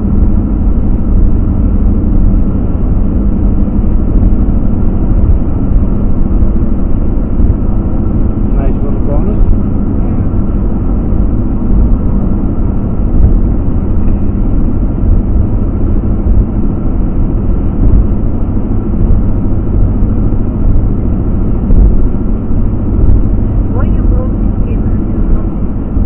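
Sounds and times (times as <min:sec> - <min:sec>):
car engine cruising: 0:00.0 - 0:26.0.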